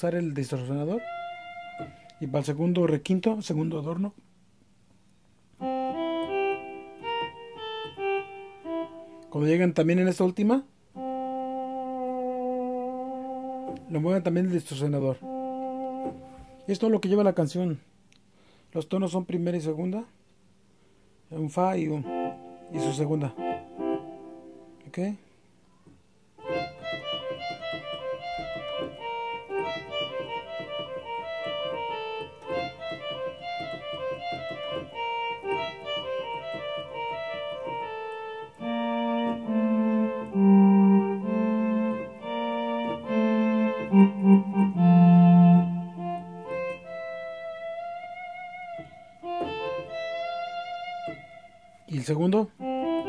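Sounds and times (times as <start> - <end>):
electronic keyboard melody: 0.0 - 3.7, 5.6 - 10.2, 10.9 - 17.3, 21.7 - 25.2, 26.4 - 53.0.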